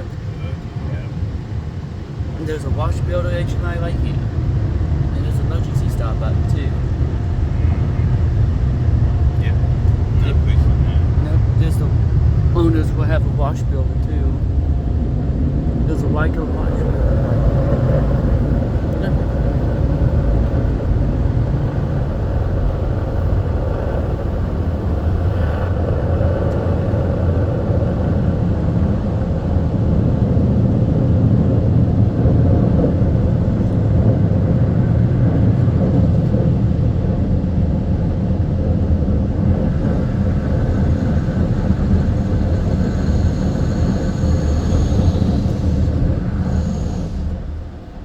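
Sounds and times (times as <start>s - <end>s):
car-wash dryer blowers blasting air: 0.0s - 48.0s.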